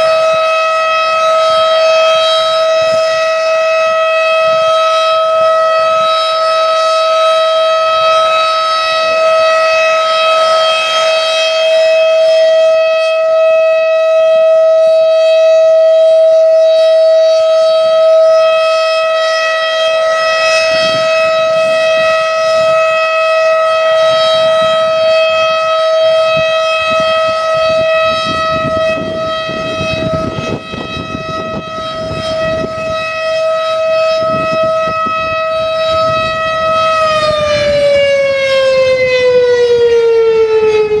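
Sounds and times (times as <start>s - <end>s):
wind rumble on microphone: 0.0s - 6.1s, 14.1s - 41.0s
siren steady tone: 0.0s - 41.0s.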